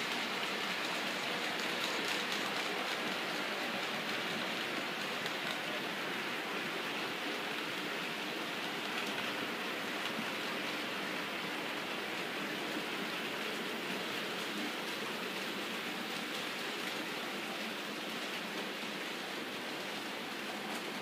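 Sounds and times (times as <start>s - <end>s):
model trains running on track: 0.0s - 21.0s.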